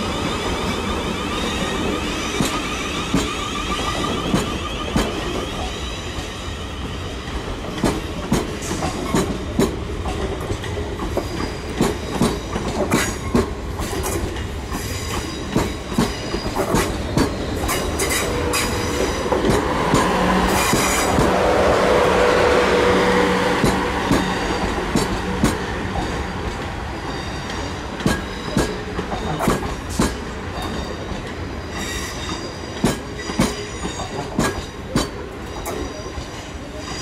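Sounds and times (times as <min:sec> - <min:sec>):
steady train hum: 0:00.0 - 0:37.0
train wheels clicking over rail joints: 0:00.2 - 0:06.3, 0:07.2 - 0:21.4, 0:23.6 - 0:37.0.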